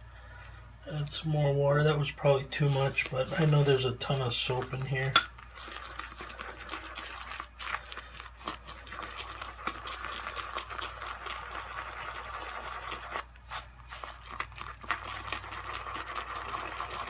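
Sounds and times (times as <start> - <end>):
brush swishing soap lather: 0.9 - 17.0.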